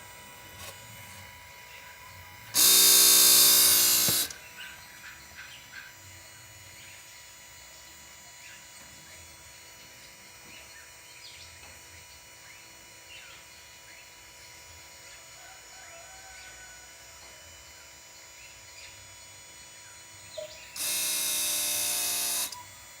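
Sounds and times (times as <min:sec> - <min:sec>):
pump motor buzzing: 0:00.0 - 0:23.0.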